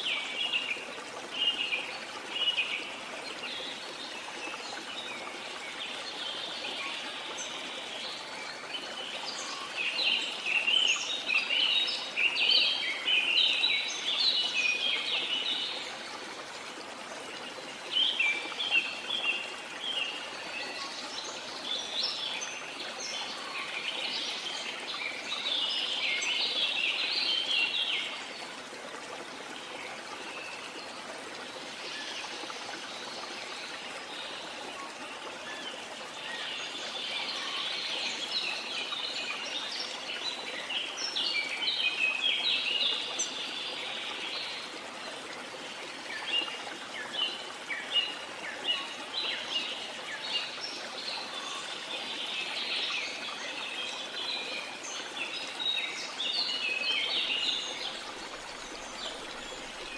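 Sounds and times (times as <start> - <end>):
running stream: 0.0 - 59.9.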